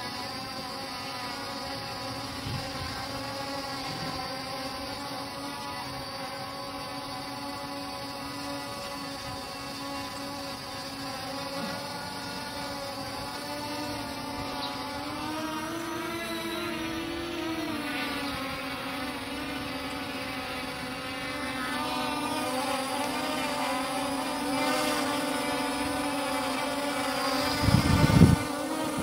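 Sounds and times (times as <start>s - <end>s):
drone propellers buzzing whine: 0.0s - 29.0s.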